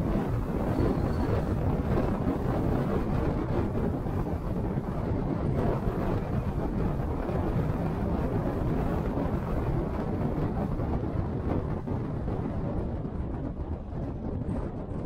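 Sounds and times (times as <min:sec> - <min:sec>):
car driving on road: 0:00.0 - 0:15.0.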